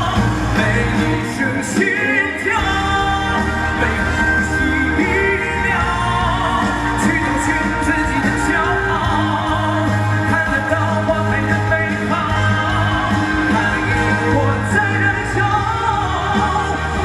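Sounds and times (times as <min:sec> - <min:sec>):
live pop-rock band: 0:00.0 - 0:17.0
man singing lead vocal: 0:00.0 - 0:17.0.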